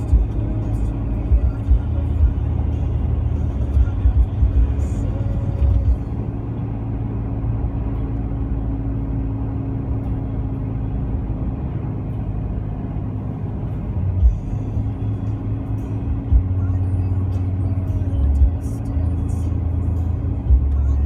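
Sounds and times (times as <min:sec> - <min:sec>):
heavy low bumps: 0:00.0 - 0:21.0
tyres and engine rumbling: 0:00.0 - 0:21.0.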